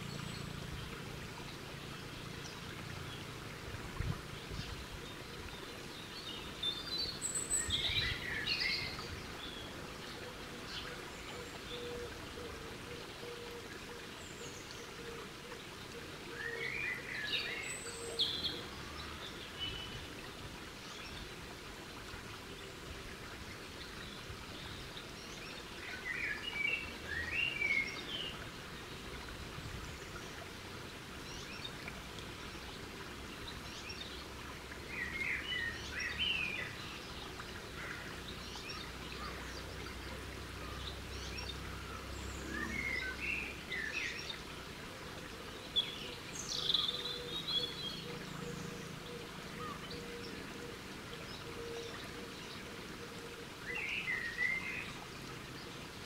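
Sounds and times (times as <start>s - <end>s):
garden birds singing: 0.0s - 21.4s, 22.0s - 56.0s
steady low background noise: 0.0s - 56.0s.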